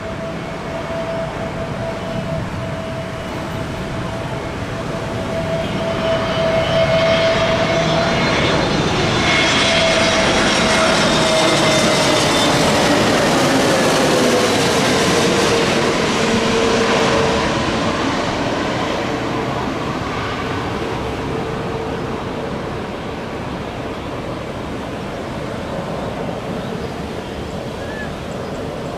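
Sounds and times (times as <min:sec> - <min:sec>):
airplane engines landing: 0:00.0 - 0:28.9.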